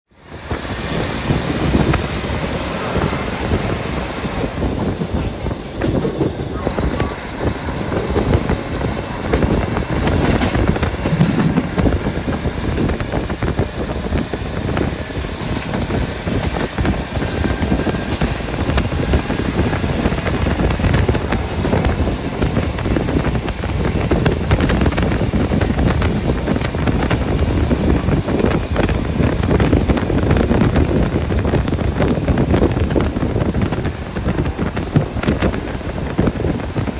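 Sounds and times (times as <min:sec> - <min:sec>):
railcar engine and wheels rumbling: 0:00.1 - 0:36.9.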